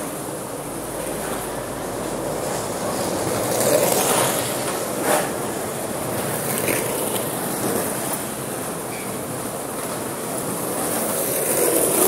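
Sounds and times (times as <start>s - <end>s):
traffic and street noise: 0.0s - 12.0s.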